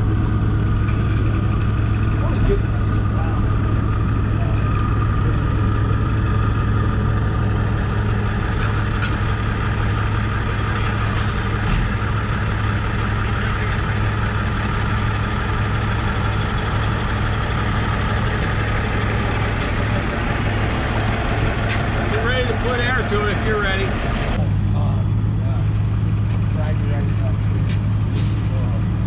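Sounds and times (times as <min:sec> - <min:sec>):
diesel truck engine humming: 0:00.0 - 0:29.0.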